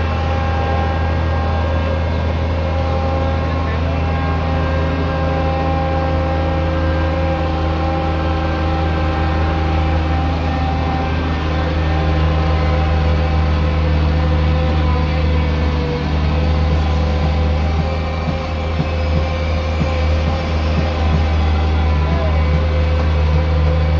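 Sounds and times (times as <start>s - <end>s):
machinery engine low hum: 0.0s - 23.9s
steady whining tones: 0.0s - 23.9s.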